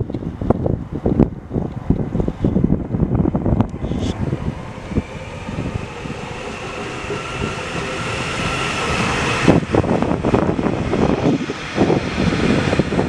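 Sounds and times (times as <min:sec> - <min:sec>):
electric train passing: 0:00.0 - 0:13.0
train high whine: 0:00.0 - 0:13.0.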